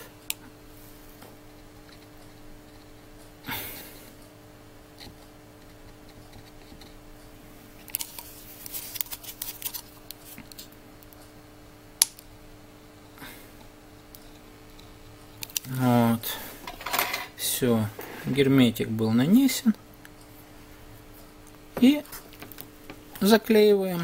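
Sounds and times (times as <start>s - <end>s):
steady electrical hum: 0.0s - 24.0s.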